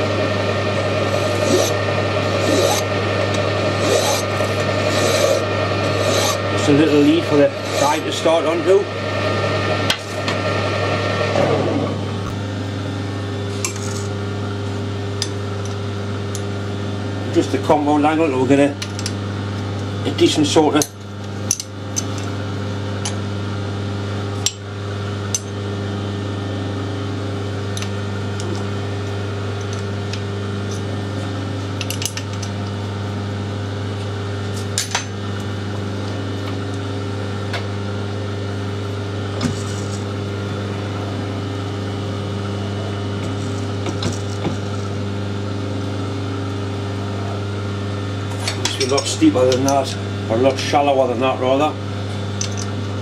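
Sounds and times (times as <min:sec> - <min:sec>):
metal lathe humming: 0:00.0 - 0:53.0.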